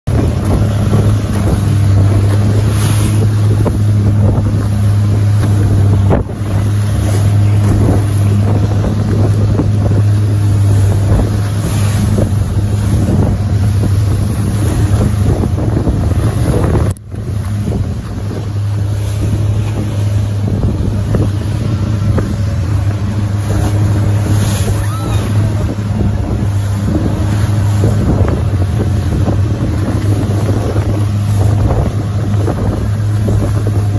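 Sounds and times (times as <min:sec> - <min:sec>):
water splashing against hull: 0:00.0 - 0:33.9
wind on microphone: 0:00.0 - 0:33.9
motorboat engine drone: 0:00.1 - 0:33.9.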